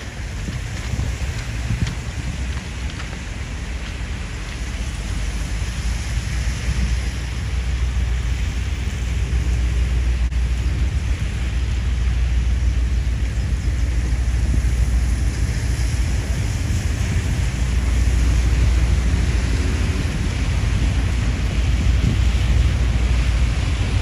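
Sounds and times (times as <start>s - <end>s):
low rumble: 0.0s - 24.0s
steady rain falling: 0.0s - 24.0s.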